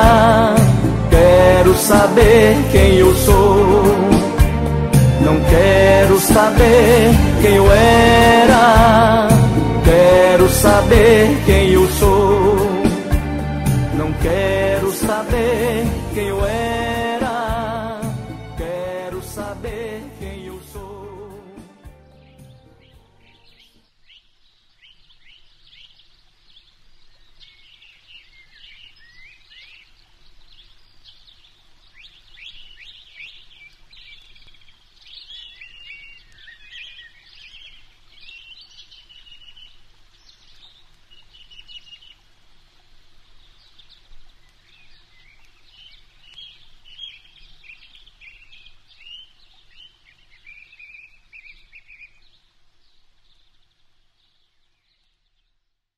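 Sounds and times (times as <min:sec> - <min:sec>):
birds chirping and singing: 0:00.0 - 0:42.2, 0:43.6 - 0:55.5.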